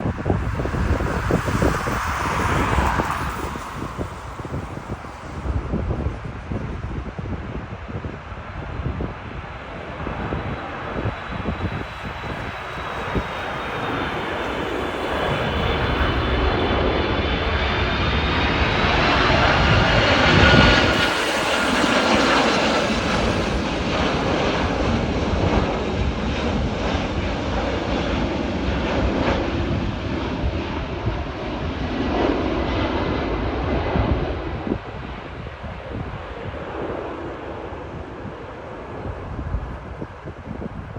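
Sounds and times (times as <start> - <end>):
jet engines passing overhead: 0.0 - 40.9.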